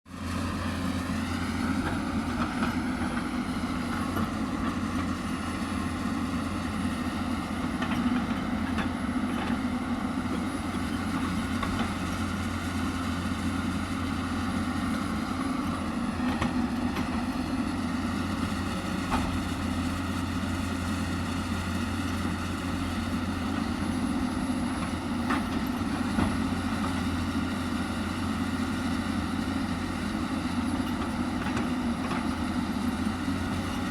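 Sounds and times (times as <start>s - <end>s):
excavator diesel engine revving: 0.1s - 33.9s.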